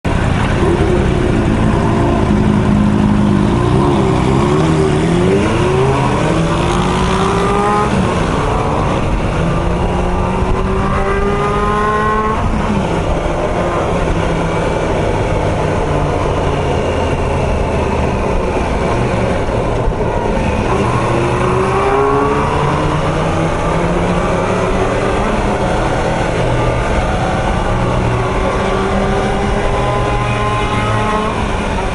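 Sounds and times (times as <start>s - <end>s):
motorcycle engine revving: 0.1s - 31.9s.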